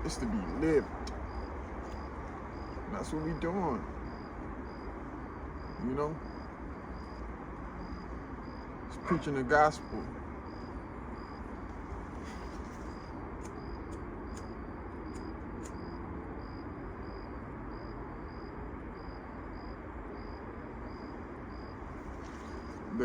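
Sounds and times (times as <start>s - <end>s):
cricket chirping: 0.0s - 23.0s
low background rumble: 0.0s - 23.0s.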